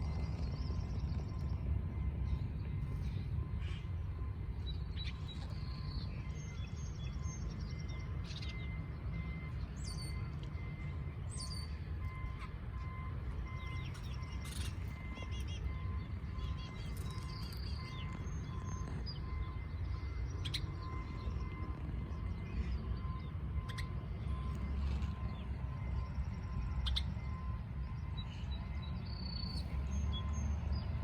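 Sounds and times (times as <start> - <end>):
small birds chirping: 0.0 - 31.0
steady low rumble: 0.0 - 31.0.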